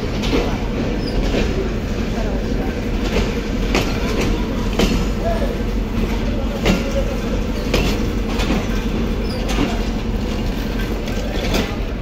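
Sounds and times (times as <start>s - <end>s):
train rumble and hum: 0.0s - 12.0s
wheels clacking over rail joints: 0.0s - 12.0s.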